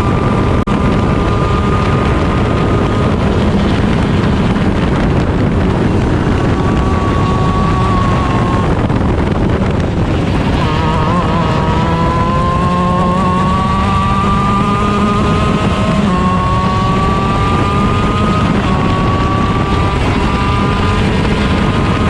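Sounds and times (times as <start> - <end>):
heavy wind noise: 0.0 - 22.0
two-stroke kart engine revving: 0.0 - 22.0.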